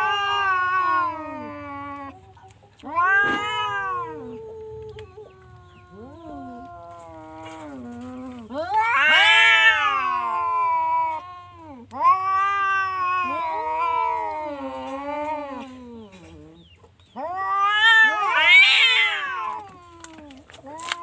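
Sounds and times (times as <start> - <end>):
cat yowling: 0.0 - 2.2, 2.8 - 16.1, 17.2 - 21.0.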